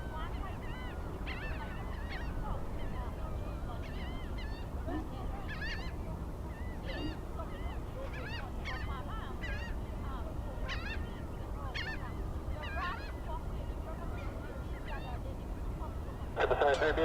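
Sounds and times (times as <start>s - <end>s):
birds honking: 0.2s - 15.3s, 15.9s - 17.0s.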